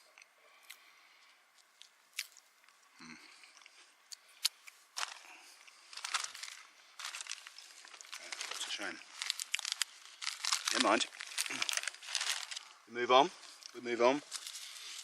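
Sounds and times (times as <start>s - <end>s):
person chewing crunchy biscuit: 0.5s - 12.8s.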